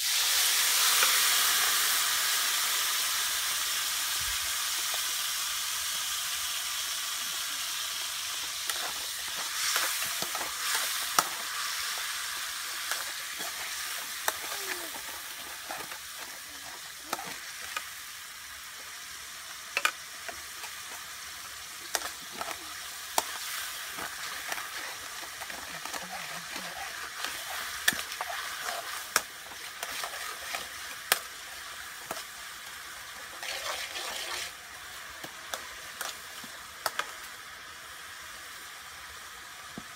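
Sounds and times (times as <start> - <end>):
food sizzling in pan: 0.0 - 39.9.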